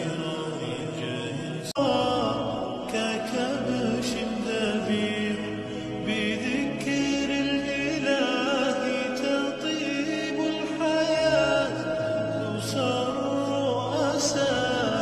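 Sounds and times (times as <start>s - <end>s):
chant-like singing: 0.0s - 15.0s.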